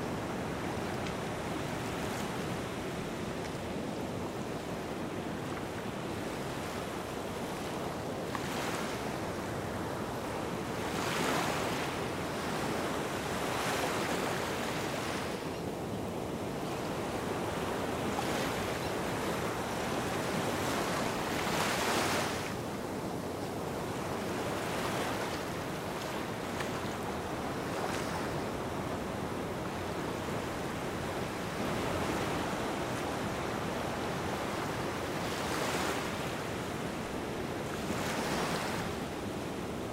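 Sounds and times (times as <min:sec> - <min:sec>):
gentle waves on beach: 0:00.0 - 0:39.9.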